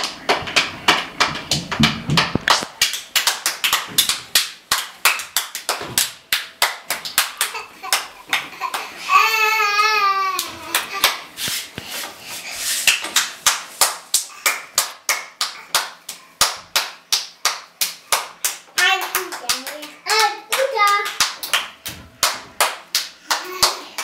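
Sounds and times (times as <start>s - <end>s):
child clapping hands: 0.0s - 9.1s, 10.3s - 11.3s, 12.9s - 24.0s.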